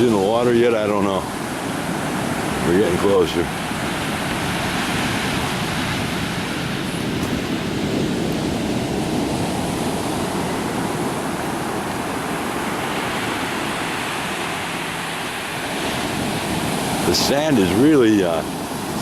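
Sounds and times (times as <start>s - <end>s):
surf breaking on beach: 0.0s - 19.0s.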